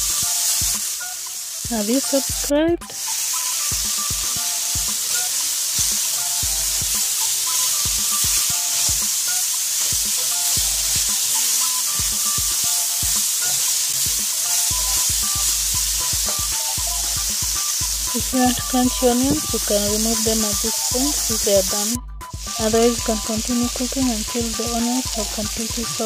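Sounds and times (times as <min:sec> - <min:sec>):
meat and onions sizzling in a pan: 0:00.0 - 0:26.0.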